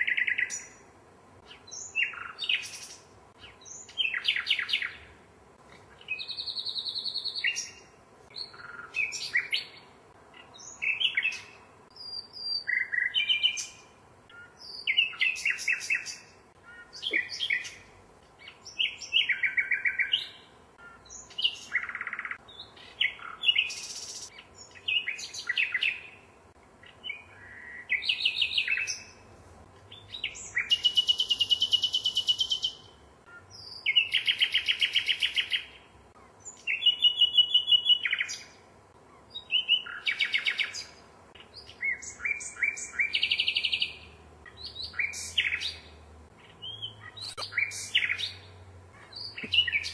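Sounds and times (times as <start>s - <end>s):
songbird trills and whistles: 1.5s - 5.1s, 6.0s - 9.8s, 10.4s - 26.1s, 26.8s - 29.2s, 29.9s - 35.7s, 36.4s - 38.5s, 39.3s - 48.4s, 49.0s - 49.9s.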